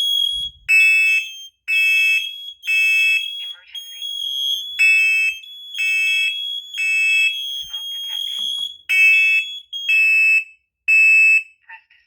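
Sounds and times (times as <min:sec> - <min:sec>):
steady high alarm tone: 0:00.0 - 0:11.4
smoke alarm beeps: 0:00.0 - 0:11.6.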